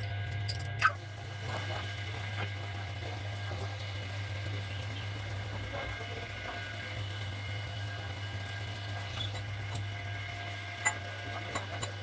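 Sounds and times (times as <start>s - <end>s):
low electrical hum of machine: 0.0s - 12.0s.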